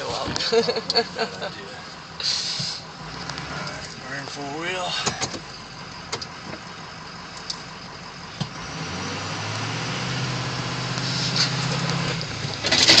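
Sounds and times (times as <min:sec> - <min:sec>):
truck engine idling and driving: 0:00.0 - 0:13.0.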